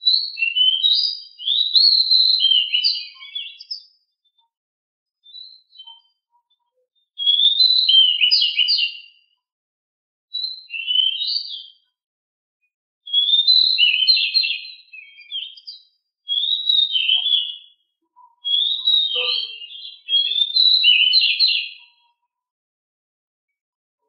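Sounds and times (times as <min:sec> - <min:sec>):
songbird chirping and trilling: 0:00.0 - 0:04.5, 0:05.2 - 0:09.4, 0:10.3 - 0:11.9, 0:13.0 - 0:22.2.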